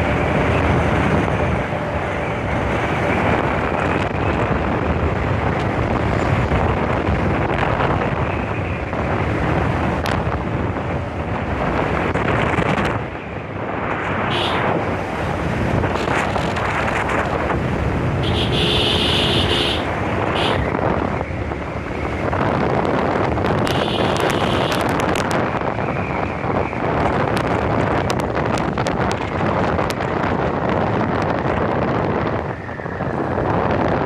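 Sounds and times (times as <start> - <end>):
road noise: 0.0 - 34.0
wind rushing over microphone: 0.0 - 34.0.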